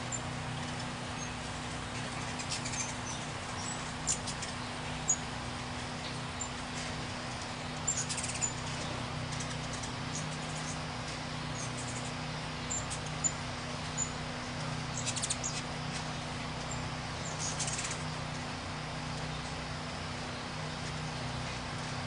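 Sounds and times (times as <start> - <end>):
hummingbirds chipping and chattering: 0.0 - 22.0
steady low hum: 0.0 - 22.0.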